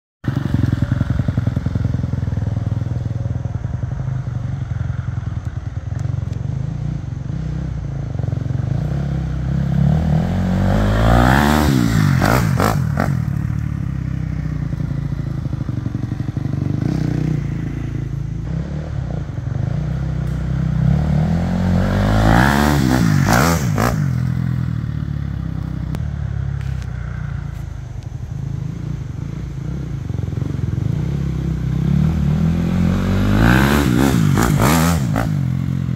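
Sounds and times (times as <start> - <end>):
dirt bike engine passing: 0.2 - 27.6, 28.3 - 35.9.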